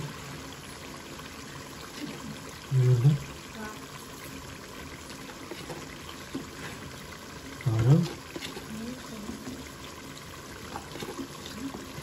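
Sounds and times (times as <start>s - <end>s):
curry bubbling: 0.0s - 12.0s.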